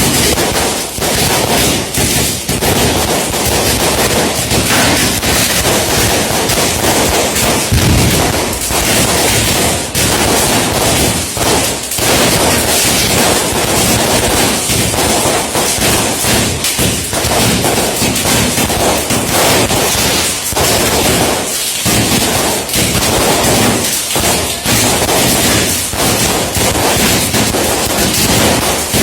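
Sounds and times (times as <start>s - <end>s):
fireworks crackling bangs: 0.0s - 29.0s.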